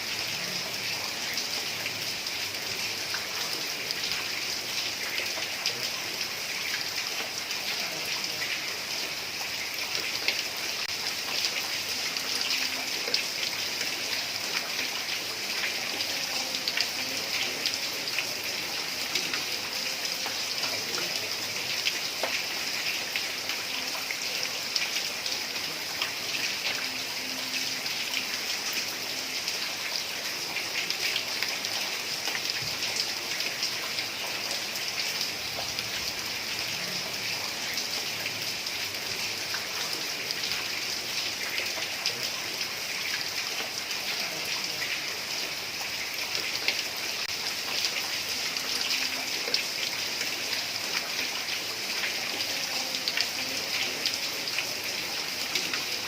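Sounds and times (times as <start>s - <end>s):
heavy rain on a tiled roof: 0.0s - 56.0s.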